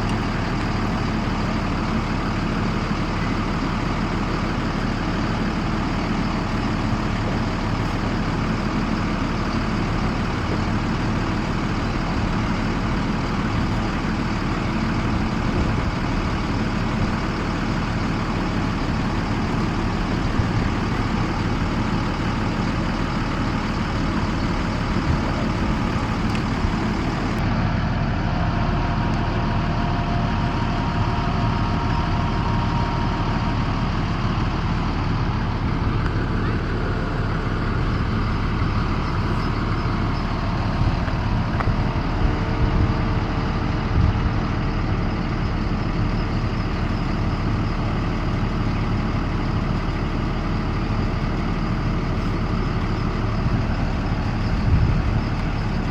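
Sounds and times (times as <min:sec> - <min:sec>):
bus engine idling: 0:00.0 - 0:55.9.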